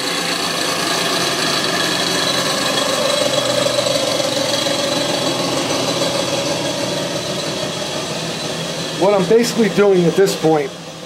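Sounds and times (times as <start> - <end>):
belt sander running: 0.0 - 11.0.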